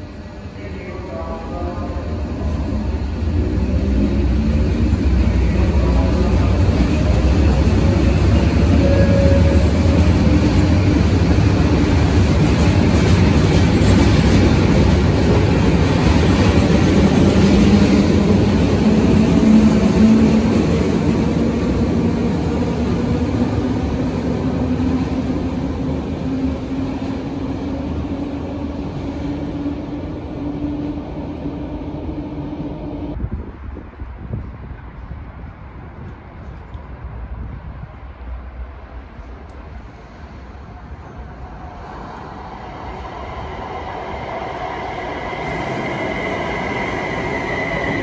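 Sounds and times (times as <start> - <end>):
train wheels echoing: 0.9 - 33.2, 40.8 - 48.0.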